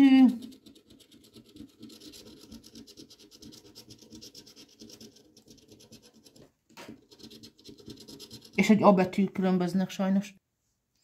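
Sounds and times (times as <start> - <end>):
coin scratching lottery ticket: 0.0 - 9.0.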